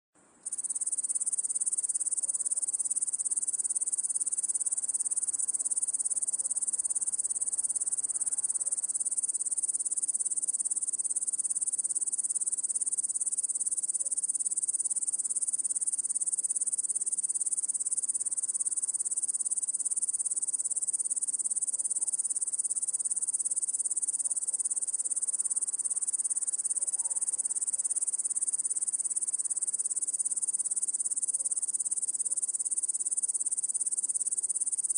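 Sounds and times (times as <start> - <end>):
crickets chirping: 0.4 - 34.9.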